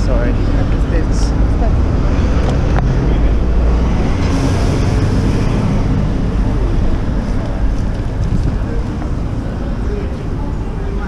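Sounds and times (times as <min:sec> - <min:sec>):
wind rumble: 0:00.0 - 0:11.0.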